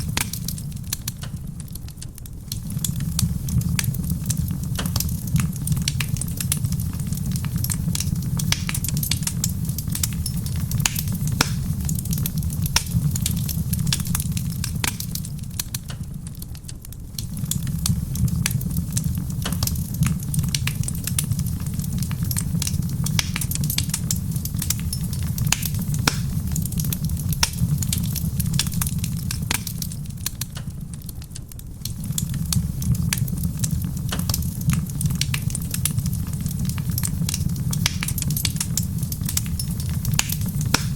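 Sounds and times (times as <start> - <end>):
soft rain: 0.0 - 40.9
steady low rumble: 0.0 - 40.9
wood fire crackling: 0.0 - 40.9.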